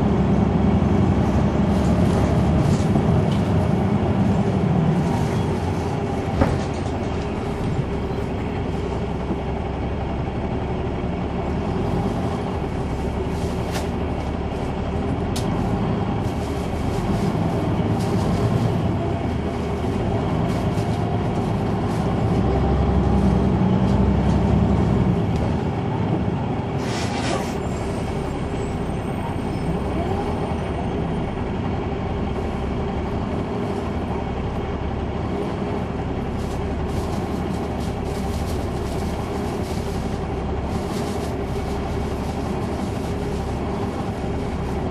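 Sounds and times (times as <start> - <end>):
bus engine humming: 0.0 - 44.9.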